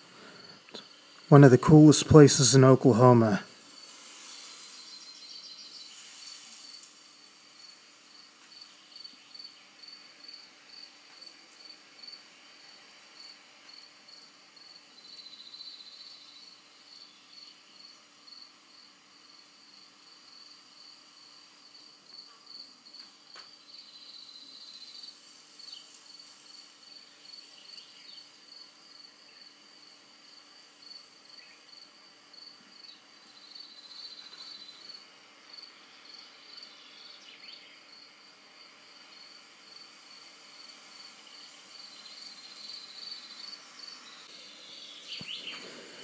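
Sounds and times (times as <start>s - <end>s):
insect chirping: 0.0s - 1.9s, 3.2s - 46.0s.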